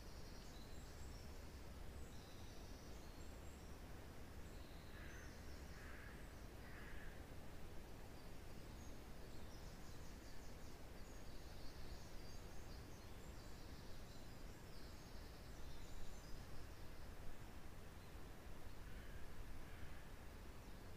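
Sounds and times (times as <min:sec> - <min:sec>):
small birds calling and trilling: 0:00.0 - 0:20.9
wind rushing through pine trees: 0:00.0 - 0:20.9.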